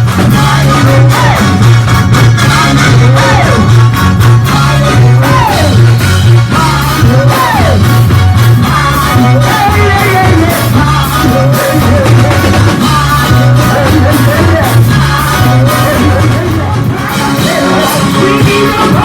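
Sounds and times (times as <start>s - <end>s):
drum beats: 0.0s - 19.0s
pulsing bass line: 0.0s - 19.0s
voices singing: 0.0s - 19.0s.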